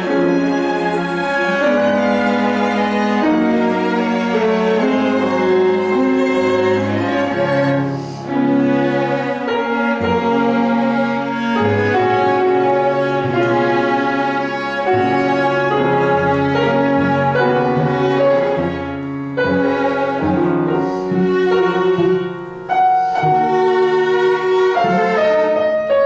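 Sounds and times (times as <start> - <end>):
classical chamber music: 0.0 - 26.0.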